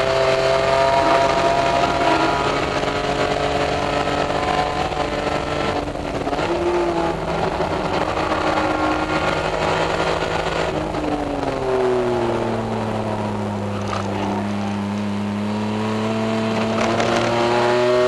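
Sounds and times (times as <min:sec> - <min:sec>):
race car engine at speed: 0:00.0 - 0:18.0
road and wind noise: 0:00.0 - 0:18.0.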